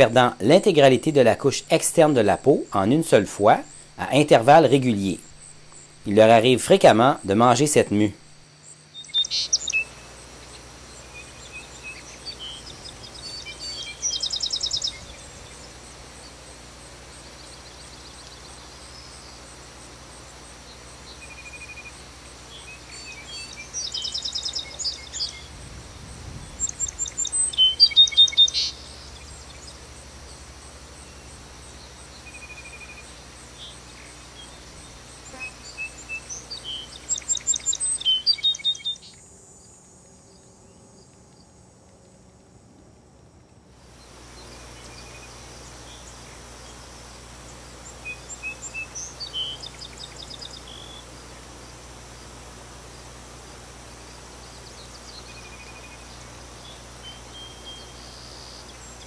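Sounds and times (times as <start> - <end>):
songbirds trilling: 0.0 - 42.1, 43.8 - 59.0
steady background hiss: 0.0 - 59.0.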